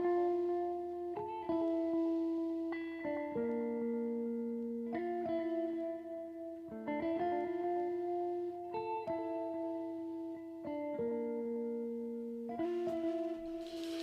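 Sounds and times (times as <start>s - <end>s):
plucked guitar slow melody: 0.0s - 14.0s.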